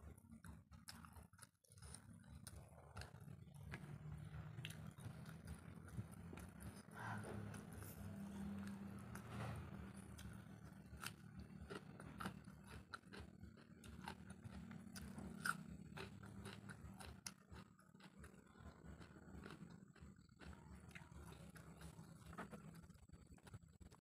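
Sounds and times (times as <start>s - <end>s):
person chewing crunchy food: 0.1s - 24.0s.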